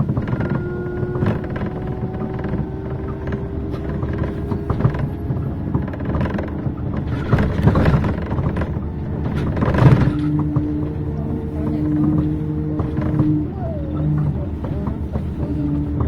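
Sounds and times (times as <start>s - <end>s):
bus engine and road rumble: 0.0s - 16.0s
low engine hum: 0.0s - 16.0s.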